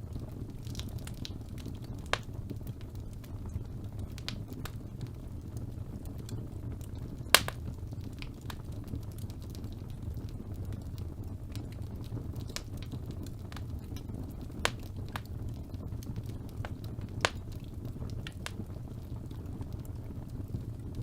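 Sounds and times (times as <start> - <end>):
fire burning rumble: 0.0 - 21.0
fire crackles: 0.0 - 21.0
fire pops: 0.0 - 21.0.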